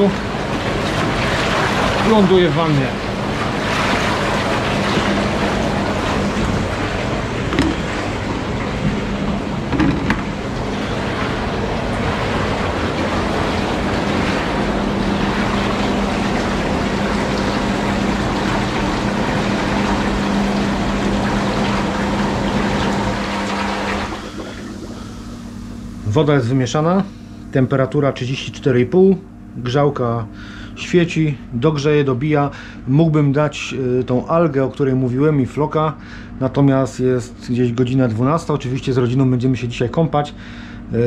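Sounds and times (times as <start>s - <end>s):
hot tub jets churning water: 0.0s - 41.0s
pump low hum: 0.0s - 41.0s.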